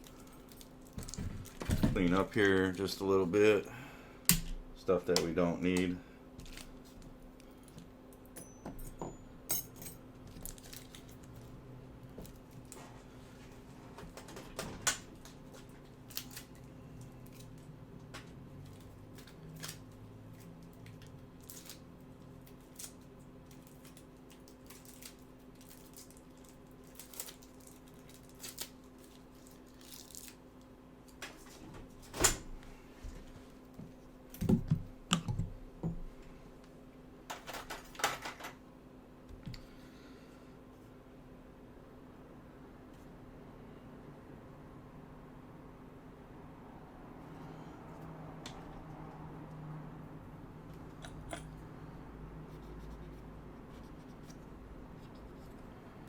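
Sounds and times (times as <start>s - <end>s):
steady low hum: 0.0s - 37.4s, 38.6s - 56.0s.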